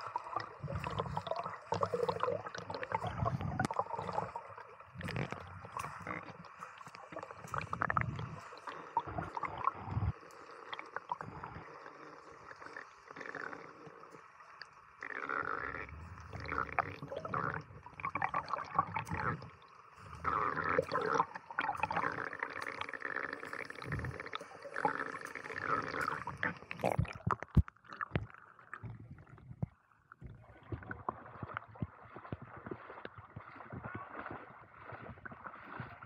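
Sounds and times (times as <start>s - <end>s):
water sloshing and gurgling: 0.0s - 36.0s.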